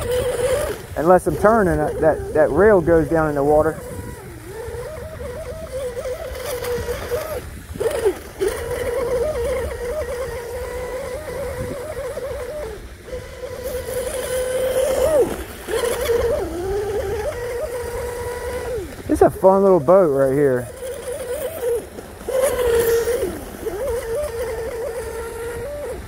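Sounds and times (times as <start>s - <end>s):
model boat motor whining: 0.0s - 26.0s.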